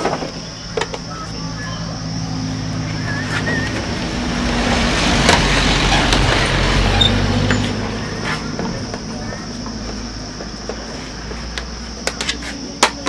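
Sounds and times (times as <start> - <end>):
vehicle engine running: 0.4 - 12.7.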